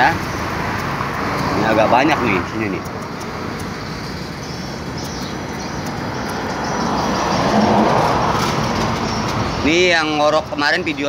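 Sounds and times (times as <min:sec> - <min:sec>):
road traffic rushing: 0:00.0 - 0:11.0
vehicle passing: 0:00.0 - 0:11.0.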